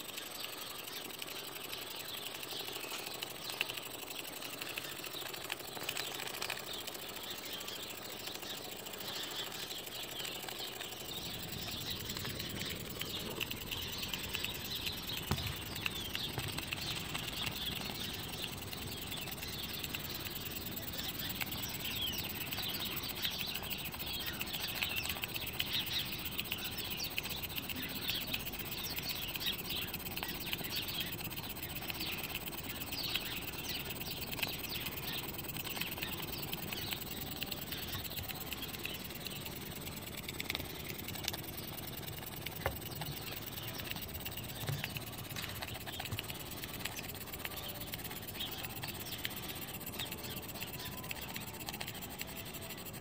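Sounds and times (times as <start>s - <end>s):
small steam engine ticking: 0.0s - 53.0s.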